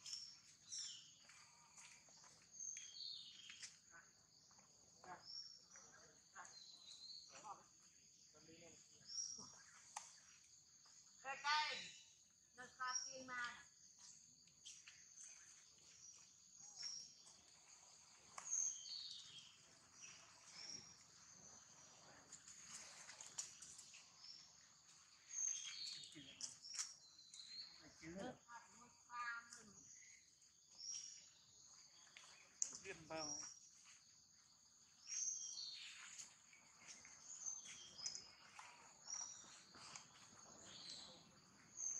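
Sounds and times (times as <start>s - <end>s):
insect chorus drone: 0.0s - 41.9s.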